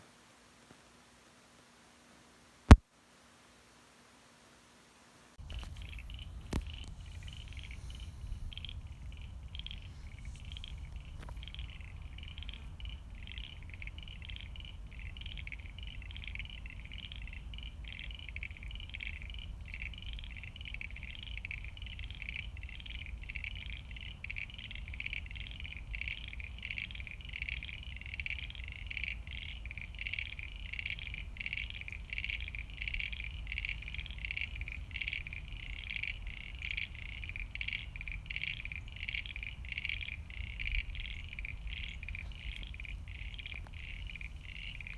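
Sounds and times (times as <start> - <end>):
steady low rumble: 5.4 - 26.6, 29.8 - 44.9
frogs calling: 5.4 - 44.9.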